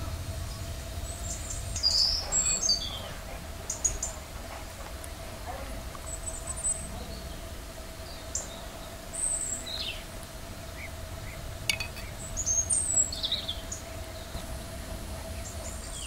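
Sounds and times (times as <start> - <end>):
faint steady hum: 0.0 - 16.0
small birds chirping: 0.4 - 4.3, 4.9 - 16.0.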